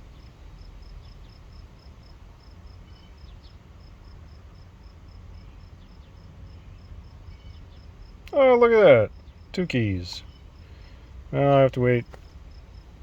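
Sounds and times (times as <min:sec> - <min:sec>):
cricket chirping: 0:00.0 - 0:13.0
low background hum: 0:00.0 - 0:13.0.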